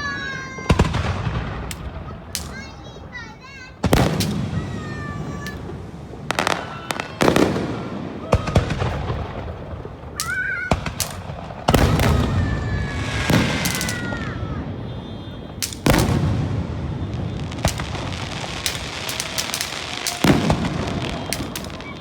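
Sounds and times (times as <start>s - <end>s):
fireworks bangs with crackle: 0.0s - 22.0s
fireworks whistling: 3.8s - 22.0s.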